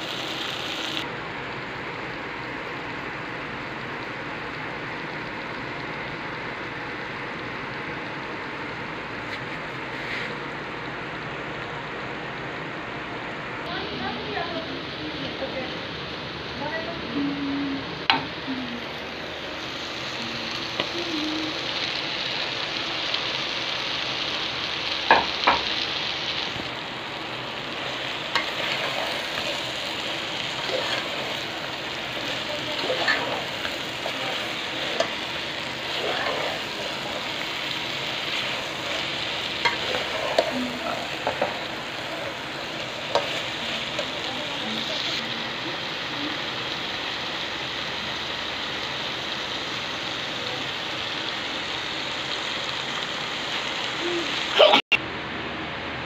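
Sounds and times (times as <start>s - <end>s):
okra sizzling in pot: 0.0s - 12.5s, 18.0s - 54.8s.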